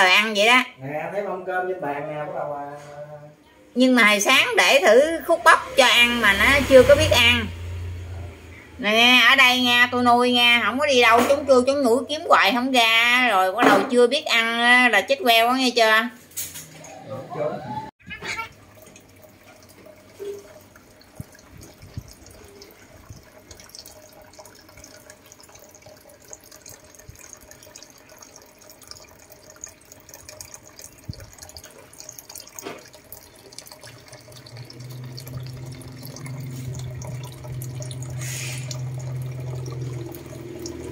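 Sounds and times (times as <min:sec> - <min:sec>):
water trickling and dripping: 0:04.0 - 0:15.2, 0:18.0 - 0:40.9.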